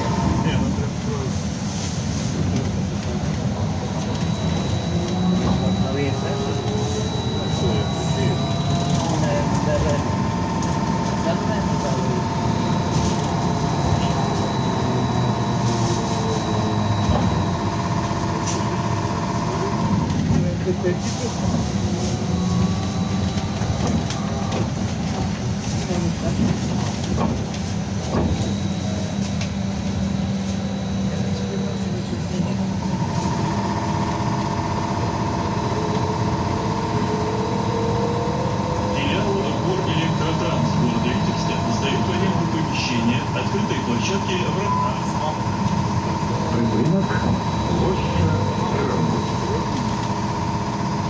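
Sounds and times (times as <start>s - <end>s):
trolleybus rumble: 0.0s - 51.0s.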